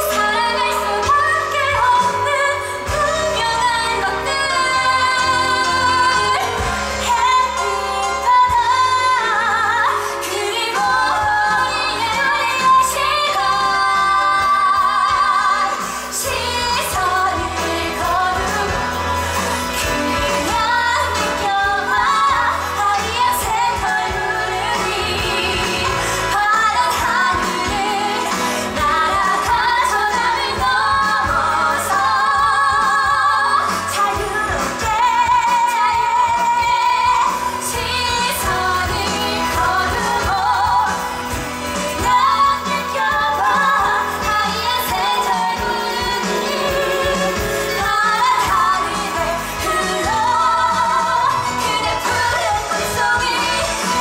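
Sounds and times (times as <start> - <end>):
person singing with vibrato: 0.0 - 54.0.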